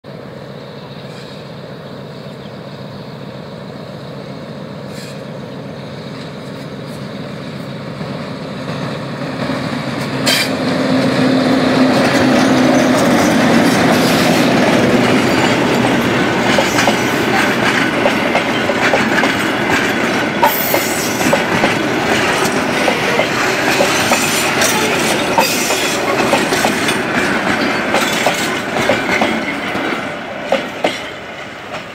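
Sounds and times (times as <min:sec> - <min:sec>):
diesel locomotive engine hum: 0:00.0 - 0:31.9
train wheels clattering over rail joints: 0:06.1 - 0:31.9.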